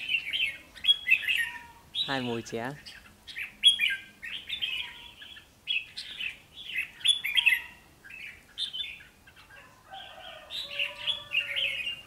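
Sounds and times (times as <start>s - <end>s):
bulbuls singing: 0.0s - 12.0s.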